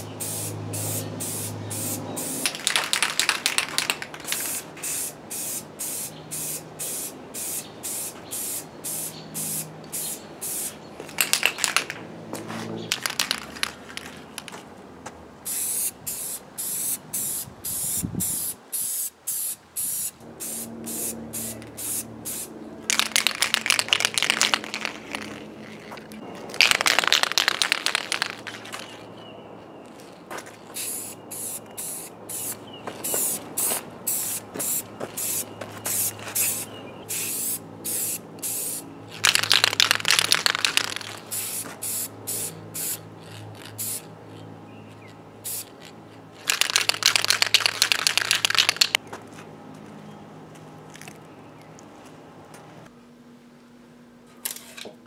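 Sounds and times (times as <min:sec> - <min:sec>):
spray paint can hissing: 0:00.0 - 0:12.0, 0:12.9 - 0:14.6, 0:15.4 - 0:29.1, 0:30.7 - 0:44.1, 0:45.4 - 0:49.0.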